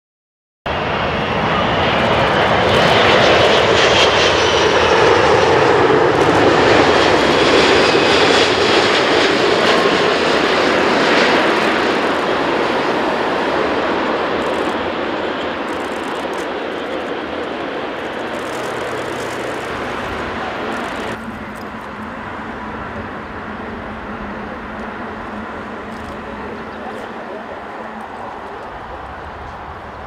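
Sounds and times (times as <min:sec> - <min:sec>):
faint high jet whine: 0:00.7 - 0:30.0
jet engines rushing: 0:00.7 - 0:30.0.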